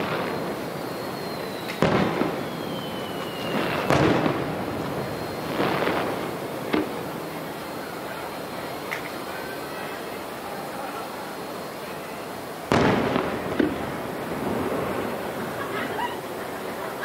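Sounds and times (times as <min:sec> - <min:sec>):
fireworks bursting: 0:00.0 - 0:17.0
fireworks crackle: 0:00.0 - 0:17.0.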